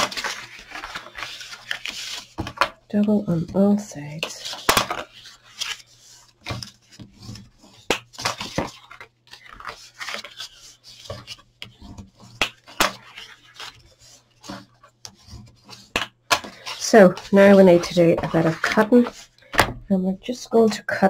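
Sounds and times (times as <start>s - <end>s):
card stock crackling and rustling: 0.0s - 2.8s, 4.2s - 19.5s.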